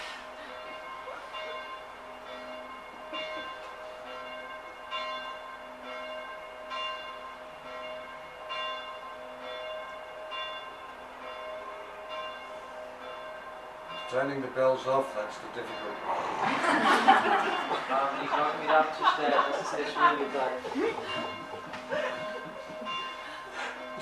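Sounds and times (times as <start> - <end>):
bells ringing: 0.0 - 24.0.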